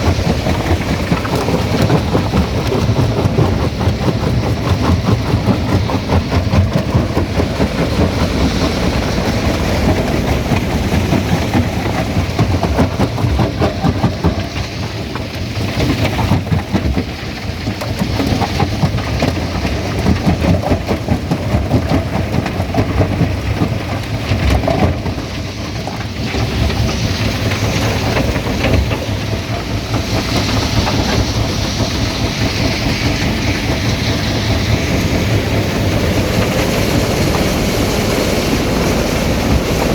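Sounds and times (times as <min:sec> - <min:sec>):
stone crusher rumbling: 0:00.0 - 0:39.9.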